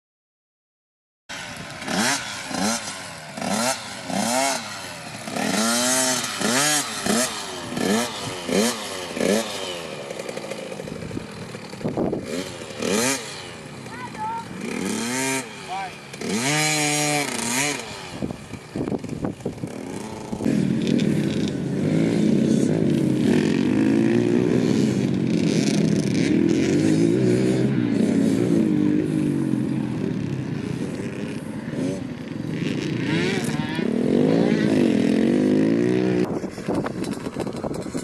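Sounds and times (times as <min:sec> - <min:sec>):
motocross bike engines revving: 0:01.3 - 0:38.0.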